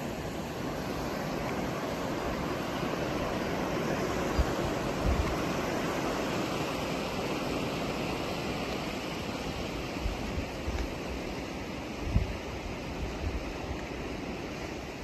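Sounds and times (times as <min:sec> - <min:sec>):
sea surf: 0:00.0 - 0:15.0
wind: 0:00.0 - 0:15.0.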